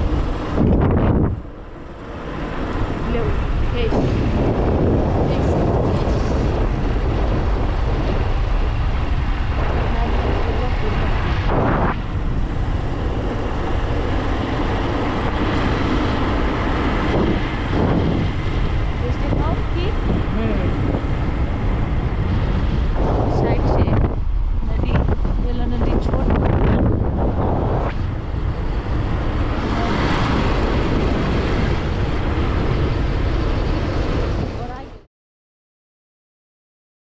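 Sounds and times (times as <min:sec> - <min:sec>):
vehicle road noise: 0:00.0 - 0:35.1
wind buffeting microphone: 0:00.0 - 0:35.1.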